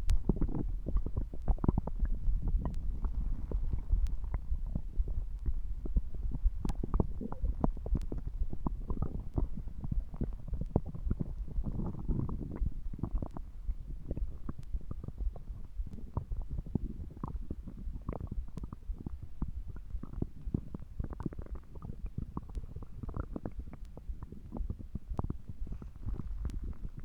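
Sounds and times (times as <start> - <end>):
stomach gurgling and rumbling: 0.0 - 27.0.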